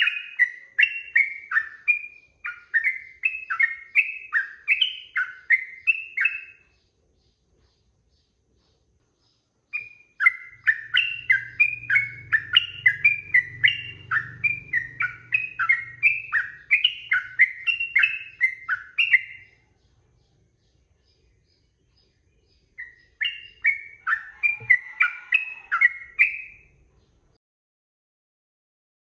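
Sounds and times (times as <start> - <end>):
bird warbling song: 0.0 - 27.4.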